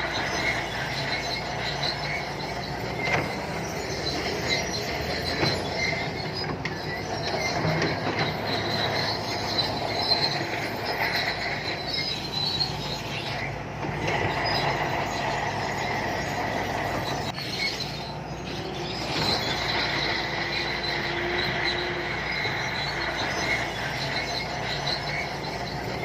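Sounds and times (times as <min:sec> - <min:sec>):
diesel engine running: 0:00.0 - 0:26.0
steel tracks squealing: 0:00.0 - 0:26.0.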